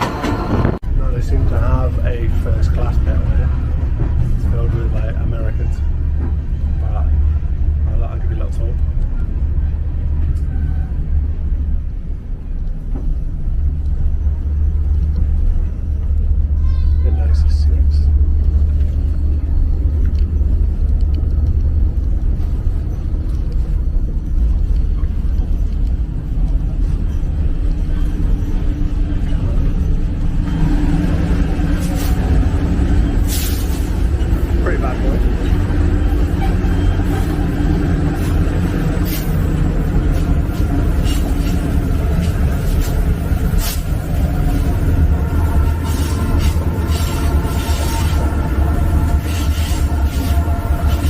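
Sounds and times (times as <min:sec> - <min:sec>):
track clacks: 0:00.0 - 0:51.0
train low rumble: 0:00.0 - 0:51.0.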